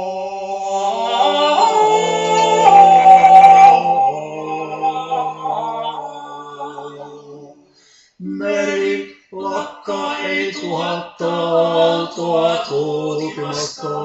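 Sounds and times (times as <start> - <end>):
male vocal quartet singing lullaby: 0.0 - 14.0.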